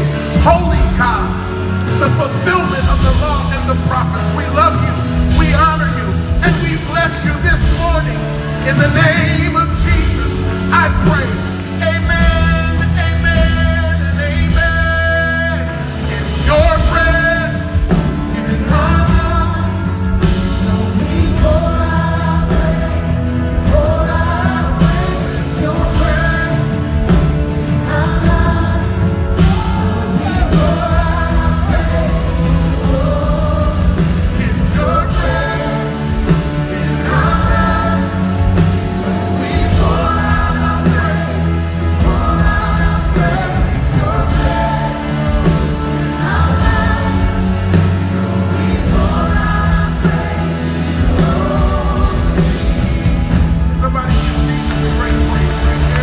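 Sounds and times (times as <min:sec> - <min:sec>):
band playing worship music: 0:00.0 - 0:56.0.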